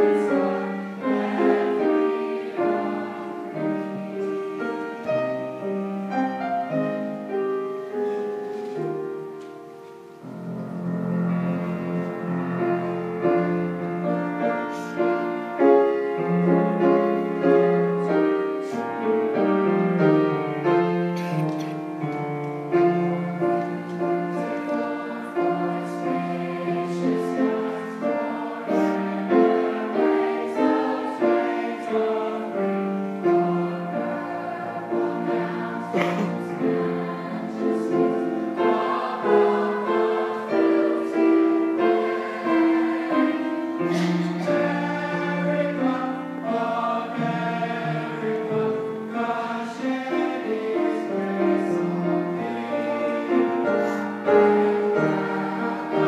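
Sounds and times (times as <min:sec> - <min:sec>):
school choir singing: 0:00.0 - 0:09.4, 0:11.4 - 0:21.2, 0:21.8 - 0:56.0
piano accompaniment: 0:00.0 - 0:56.0.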